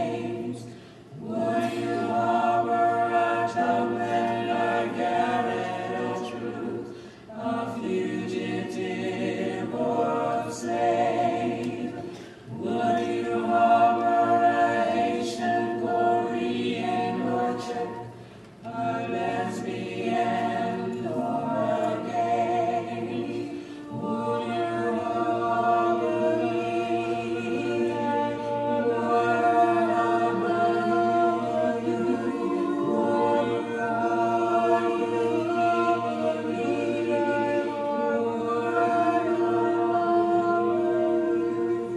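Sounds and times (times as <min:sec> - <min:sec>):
choir singing: 0:00.0 - 0:41.9.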